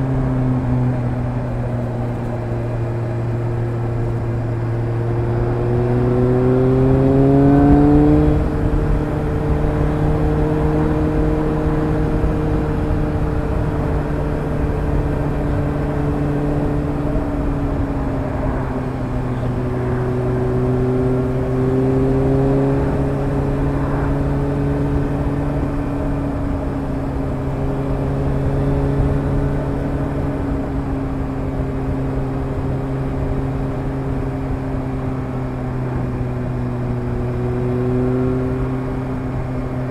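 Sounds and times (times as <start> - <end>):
motorcycle engine on road: 0.0 - 39.9.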